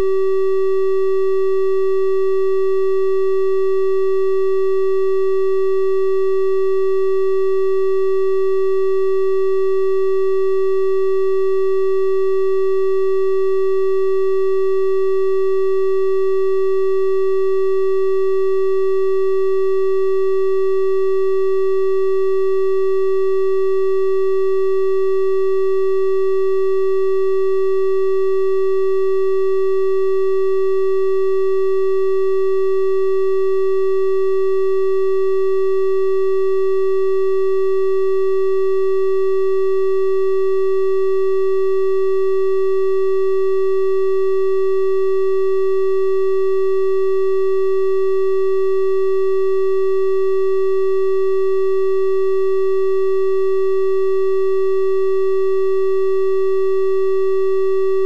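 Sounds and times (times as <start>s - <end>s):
electronic test tone: 6.4s - 58.0s.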